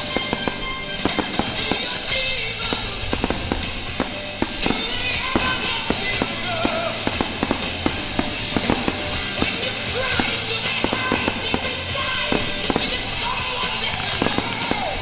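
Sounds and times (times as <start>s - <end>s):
background music: 0.0s - 15.0s
fireworks cracking and popping: 0.0s - 15.0s.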